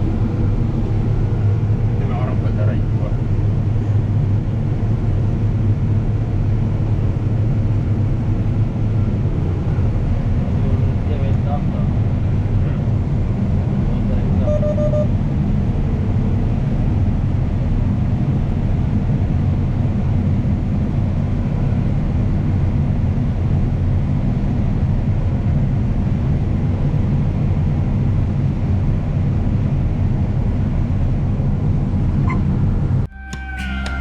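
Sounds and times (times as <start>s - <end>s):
combine harvester engine drone: 0.0s - 34.0s.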